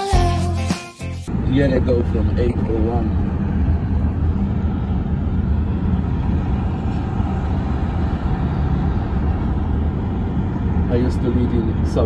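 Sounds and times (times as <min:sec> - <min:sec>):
car road noise rumble: 0:01.3 - 0:12.0.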